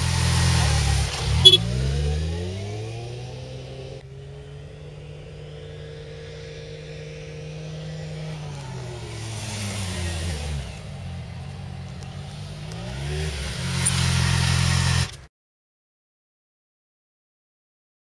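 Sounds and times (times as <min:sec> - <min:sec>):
distant motorcycle engine: 0:00.0 - 0:15.3
motorcycle engine revving: 0:00.0 - 0:15.3.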